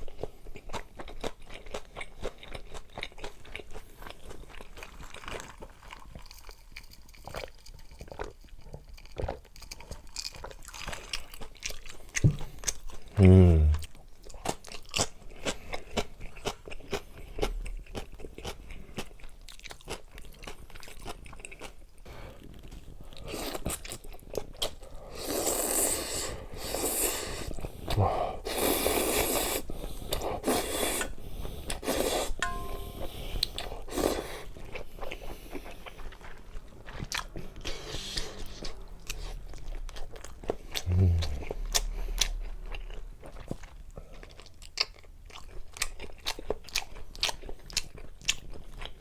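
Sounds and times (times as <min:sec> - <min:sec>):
person chewing and crunching food: 0:00.0 - 0:49.0.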